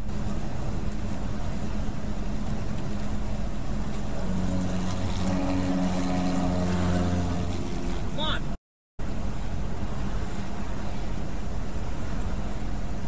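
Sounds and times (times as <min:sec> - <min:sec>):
low engine drone: 0:00.0 - 0:13.0
truck engine and road rumble: 0:00.0 - 0:13.0.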